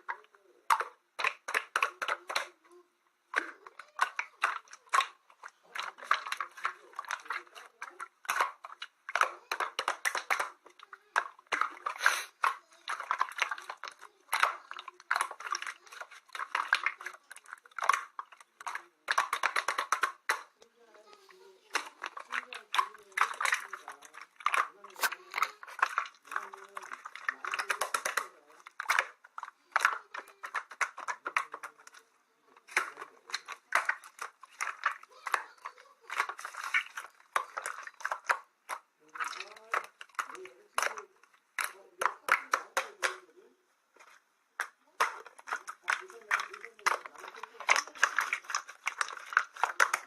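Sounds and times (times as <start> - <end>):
slime squelching and popping: 0.0 - 50.0.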